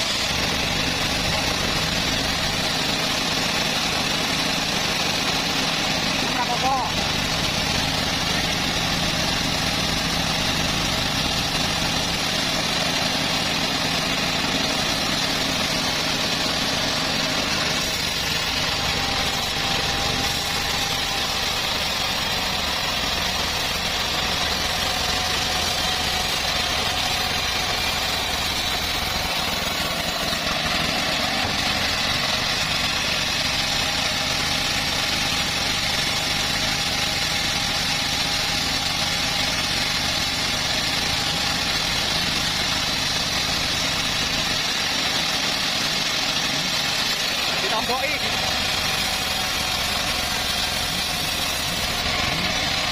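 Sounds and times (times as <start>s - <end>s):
sawmill engine and blade running: 0.0s - 52.9s.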